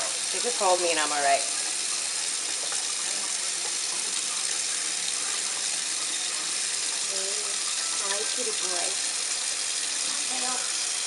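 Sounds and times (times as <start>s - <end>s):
faucet water splashing into sink: 0.0s - 11.0s.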